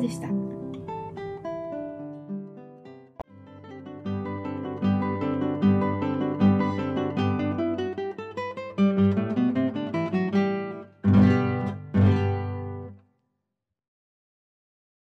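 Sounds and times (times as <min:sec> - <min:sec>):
classical guitar plucked notes: 0:00.0 - 0:13.0.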